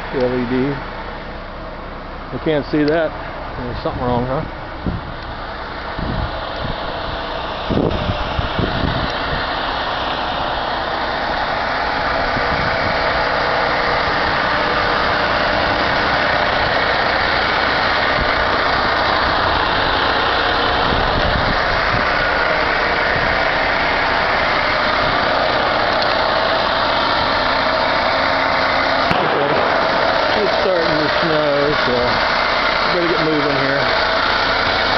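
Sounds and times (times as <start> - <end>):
truck engine idling: 0.0 - 34.9.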